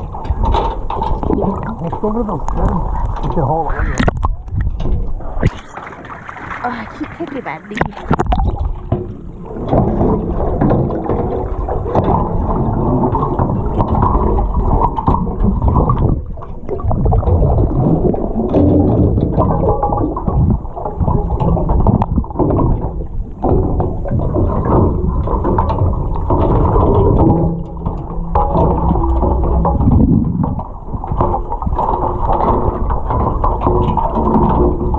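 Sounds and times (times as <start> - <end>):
knocks and bumps: 0.0 - 34.9
underwater water rushing: 0.0 - 34.9.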